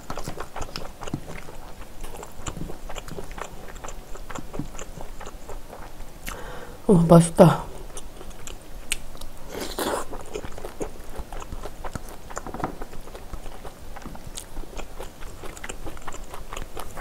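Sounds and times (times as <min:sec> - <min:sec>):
person chewing food: 0:00.0 - 0:06.6, 0:07.7 - 0:17.0.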